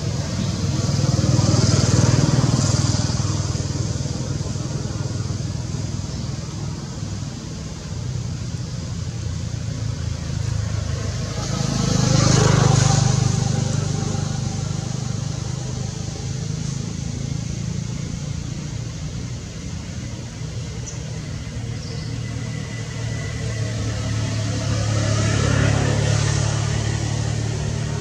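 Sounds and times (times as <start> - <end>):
vehicle engine running: 0.0 - 28.0
vehicle passing by: 0.0 - 28.0.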